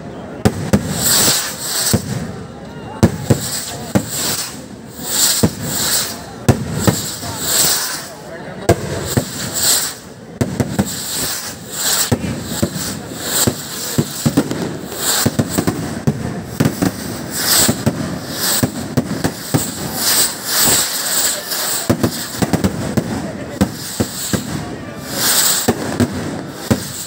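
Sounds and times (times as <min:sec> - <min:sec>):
fireworks bangs and cracks: 0:00.0 - 0:27.0
rockets whooshing on launch: 0:00.6 - 0:02.4, 0:03.1 - 0:27.0.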